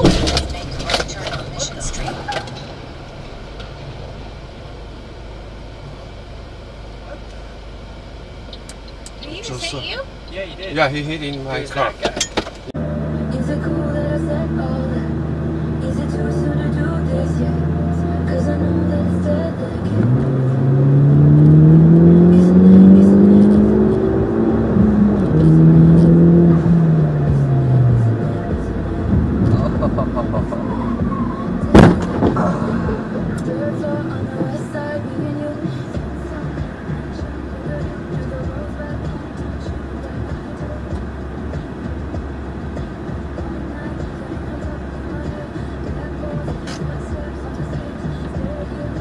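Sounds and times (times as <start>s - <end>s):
car engine idling: 0.0s - 49.0s
street traffic noise: 0.0s - 49.0s.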